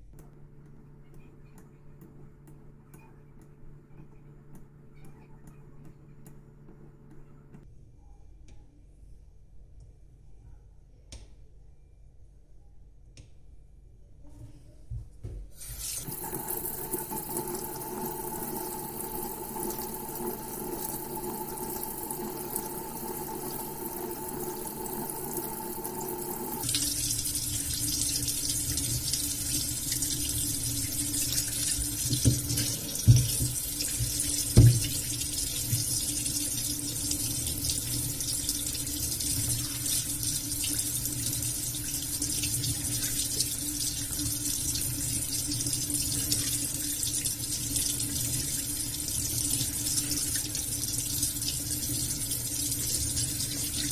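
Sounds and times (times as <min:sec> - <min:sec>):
water running from a tap: 0:00.0 - 0:07.6, 0:15.6 - 0:53.9.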